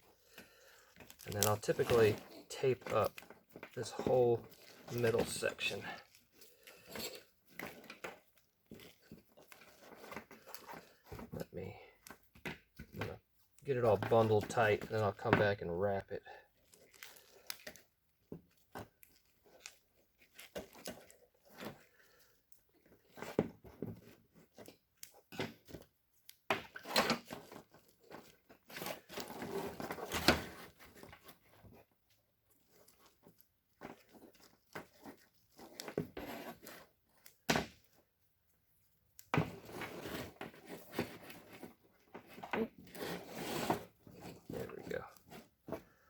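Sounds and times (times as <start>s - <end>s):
wires crinkling and rustling: 0.2s - 45.8s.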